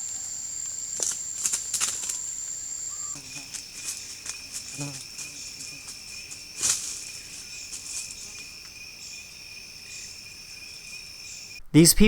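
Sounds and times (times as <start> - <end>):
insects buzzing: 0.0 - 11.6.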